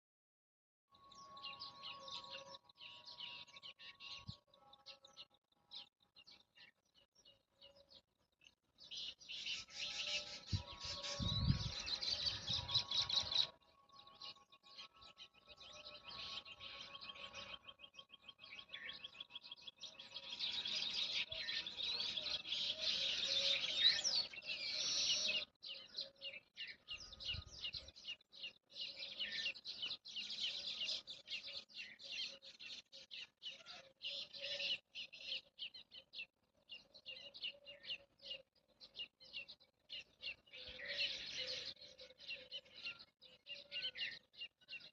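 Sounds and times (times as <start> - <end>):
small birds chirping: 1.0 - 44.9.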